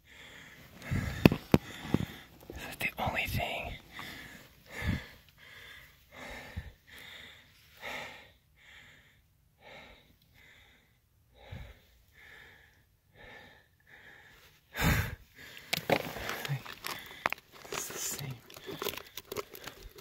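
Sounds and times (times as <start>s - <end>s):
person breathing hard: 0.0s - 2.6s, 3.4s - 20.0s.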